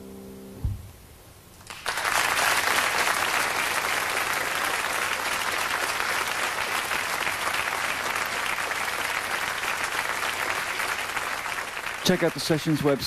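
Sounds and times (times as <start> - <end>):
audience applauding: 1.6 - 13.0.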